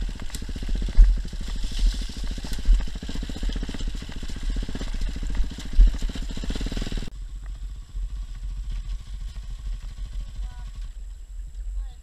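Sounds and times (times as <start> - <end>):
engine idling: 0.0 - 11.4
dirt bike engine at low revs: 0.0 - 12.0.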